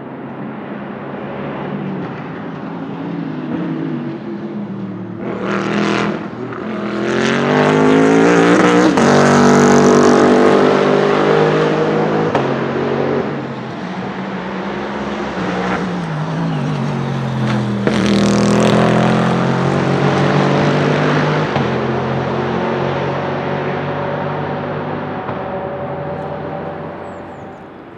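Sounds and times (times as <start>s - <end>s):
race car accelerating past: 1.1s - 27.9s.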